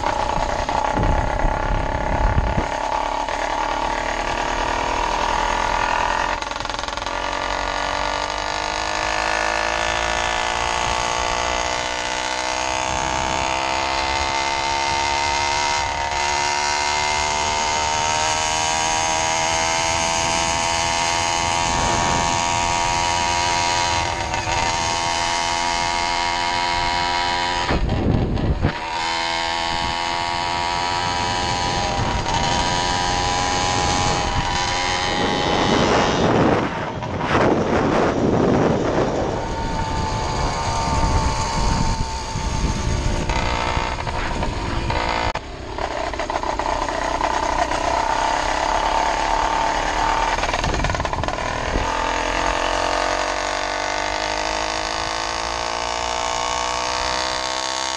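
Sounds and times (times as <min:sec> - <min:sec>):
two-stroke engine running under load: 0:00.0 - 0:57.9.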